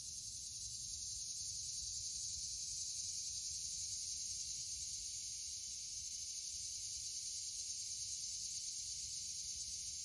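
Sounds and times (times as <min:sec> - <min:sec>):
insects chorus hissing: 0:00.0 - 0:10.0.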